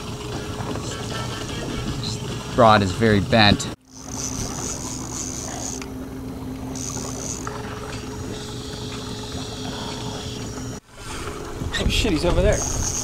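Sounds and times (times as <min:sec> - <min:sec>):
outboard motor humming: 0:00.0 - 0:13.0
water noise: 0:00.0 - 0:13.0
wind: 0:00.0 - 0:13.0.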